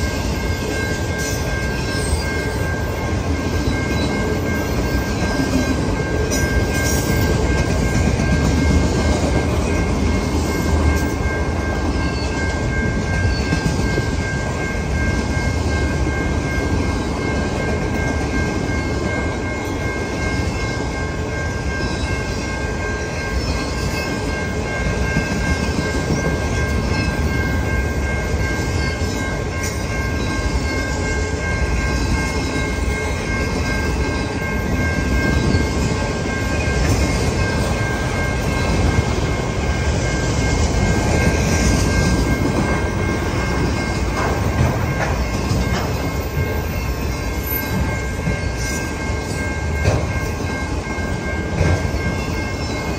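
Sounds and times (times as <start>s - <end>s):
crossing warning bell: 0.0s - 52.9s
train wheels rumbling on rails: 0.0s - 52.9s.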